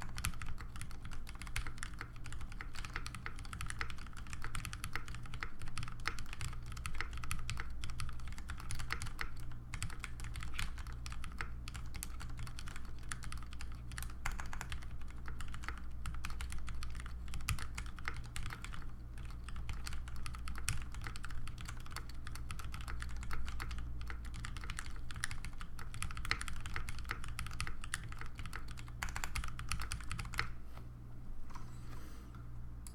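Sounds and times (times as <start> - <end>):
mechanical keyboard typing: 0.0 - 30.6.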